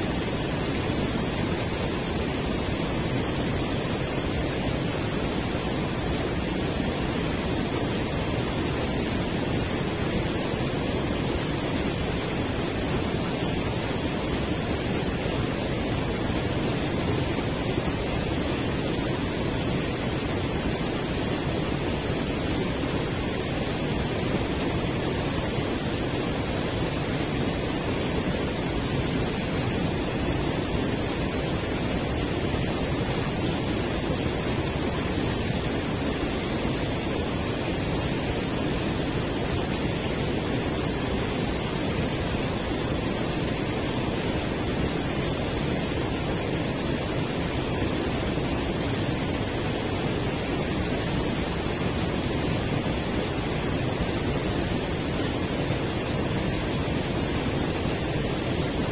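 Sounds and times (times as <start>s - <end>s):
river water rushing over weir: 0.0s - 58.9s.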